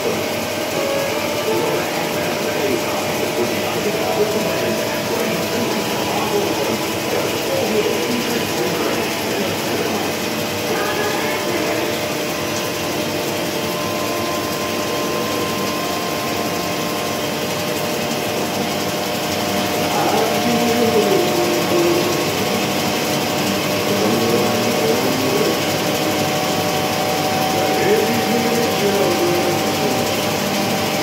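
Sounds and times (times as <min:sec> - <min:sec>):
lathe cutting metal: 0:00.0 - 0:31.0.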